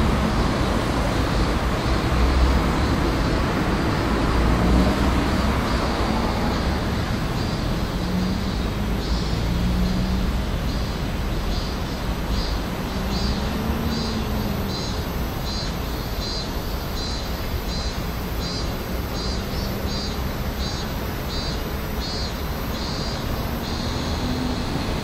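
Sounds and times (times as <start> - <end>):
outdoor background rumble: 0.0 - 25.0.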